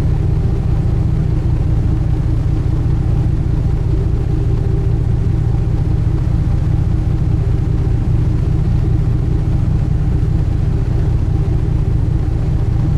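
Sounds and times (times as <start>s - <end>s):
boat engine drone: 0.0s - 12.9s.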